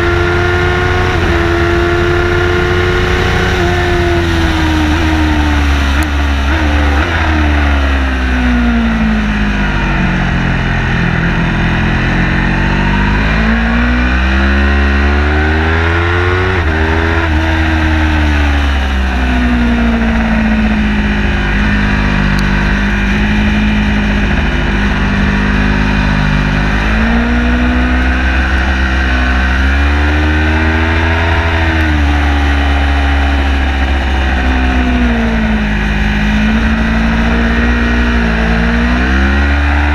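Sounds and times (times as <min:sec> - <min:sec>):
race car engine revving: 0:00.0 - 0:39.9
road and wind noise: 0:00.0 - 0:39.9.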